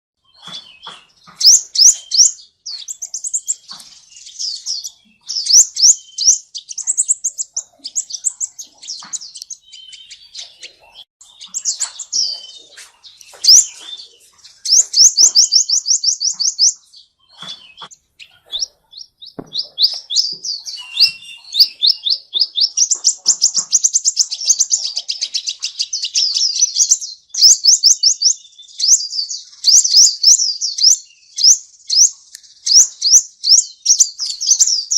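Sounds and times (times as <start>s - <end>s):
songbird chirping: 0.2s - 34.9s.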